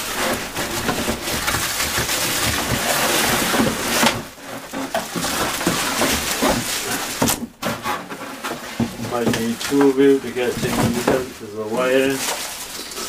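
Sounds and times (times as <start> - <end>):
cardboard and plastic packaging rustling: 0.0 - 13.0.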